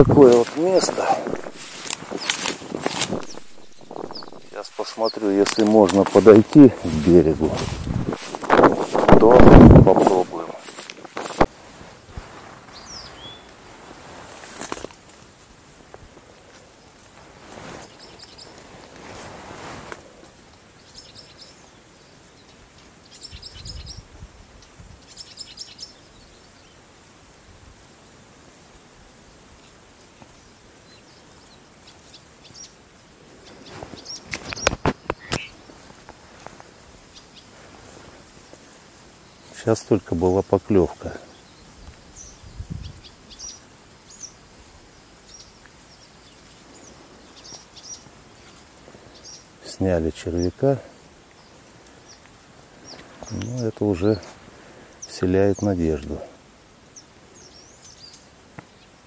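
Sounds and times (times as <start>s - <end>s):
songbird singing: 0.0s - 11.5s, 12.3s - 13.6s, 17.8s - 18.7s, 20.2s - 26.9s, 29.3s - 59.0s
small birds chirping: 0.0s - 13.6s, 16.2s - 19.1s, 19.9s - 26.9s, 29.3s - 59.0s
faint outdoor hiss: 0.0s - 59.0s.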